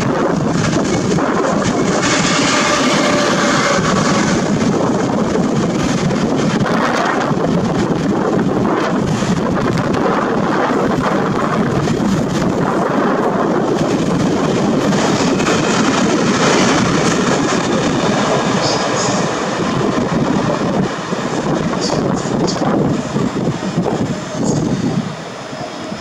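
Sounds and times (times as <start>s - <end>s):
train rumbling along rails: 0.0s - 26.0s.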